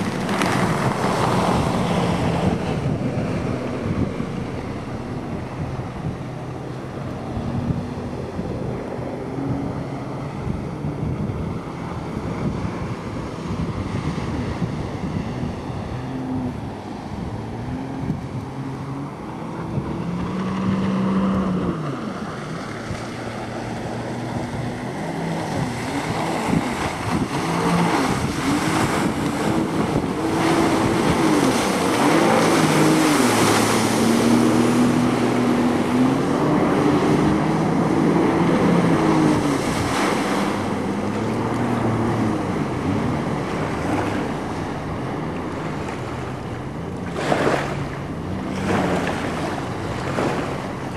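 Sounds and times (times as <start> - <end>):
watercraft engine revving: 0.0 - 50.9.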